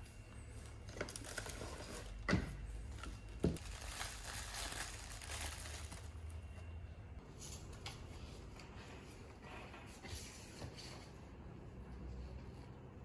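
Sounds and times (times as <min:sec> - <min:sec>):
rustling and handling noises: 0:00.0 - 0:11.3.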